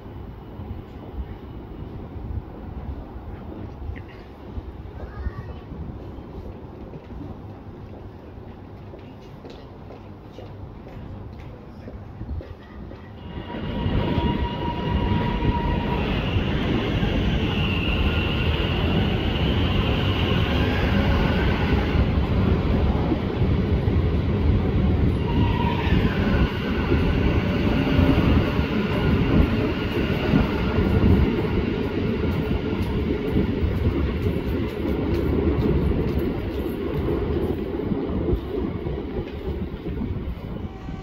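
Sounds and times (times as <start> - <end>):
electric train rumbling past: 0.0 - 41.0.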